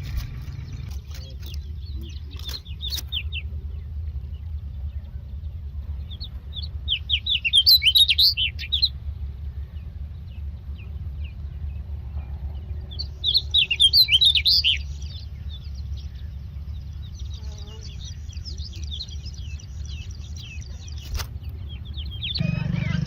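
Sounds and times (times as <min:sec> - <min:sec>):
nestlings begging with high chirps: 0:00.0 - 0:23.0
steady low rumble: 0:00.0 - 0:23.0.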